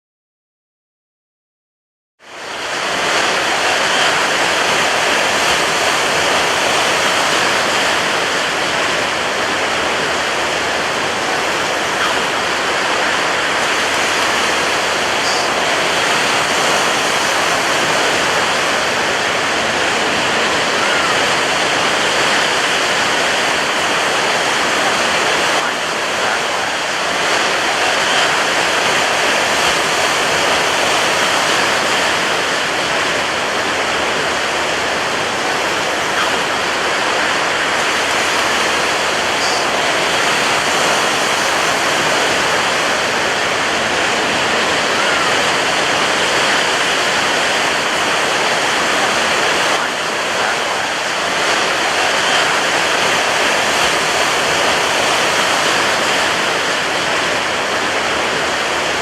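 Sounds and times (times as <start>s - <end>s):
surf breaking on beach: 2.2s - 59.0s.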